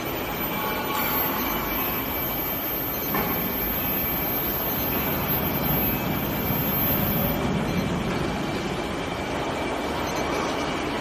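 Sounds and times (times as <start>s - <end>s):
machinery running with high whine: 0.0s - 11.0s.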